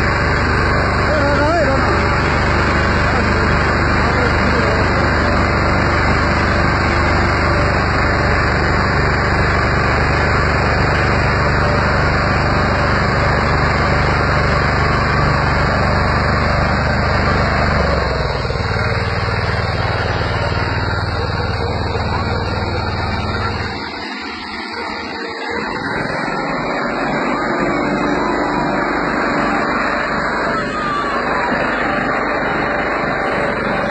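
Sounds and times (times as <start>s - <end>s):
harvester engine running: 0.0s - 33.9s.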